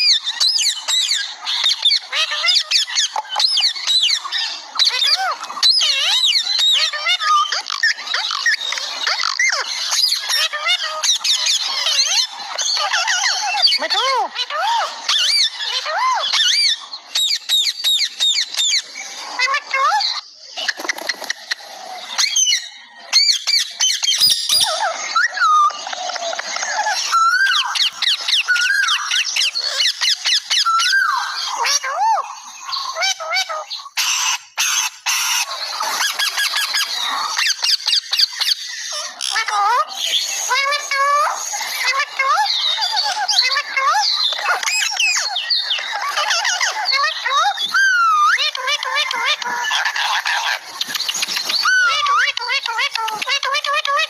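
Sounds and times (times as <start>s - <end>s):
parrot chattering: 0.0s - 54.0s.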